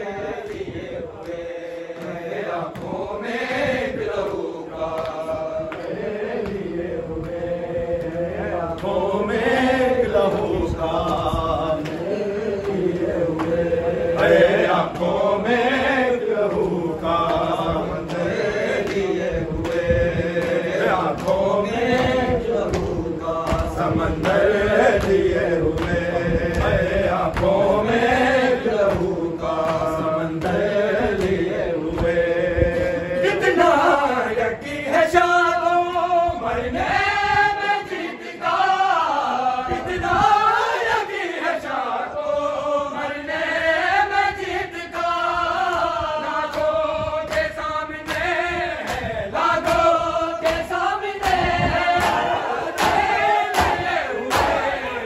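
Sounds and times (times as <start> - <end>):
men chanting a mourning lament: 0.0 - 55.0.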